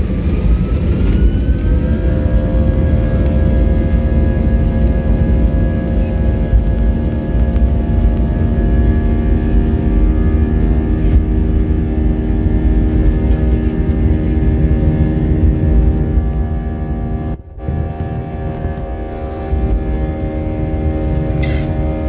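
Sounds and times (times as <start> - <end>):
jet engines roaring: 0.0 - 22.0
wheels rumbling on runway: 0.0 - 22.0.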